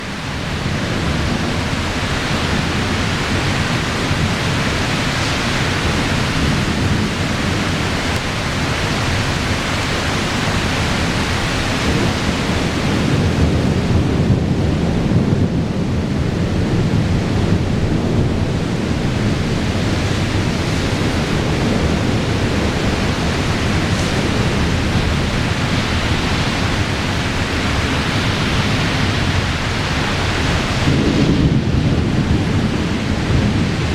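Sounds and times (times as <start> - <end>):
rain hissing: 0.0 - 33.9
thunder rumbling: 0.0 - 33.9.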